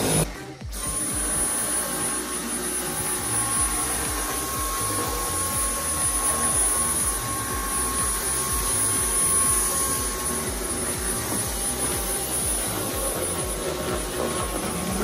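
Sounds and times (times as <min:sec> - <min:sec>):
low vacuum whine: 0:00.0 - 0:15.0
stick vacuum whining rush of air: 0:00.0 - 0:15.0.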